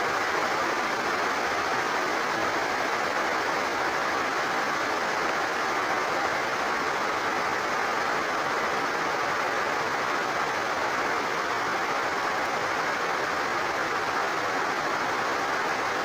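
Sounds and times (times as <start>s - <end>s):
overflowing water rushing: 0.0s - 16.0s
rain falling: 0.0s - 16.0s.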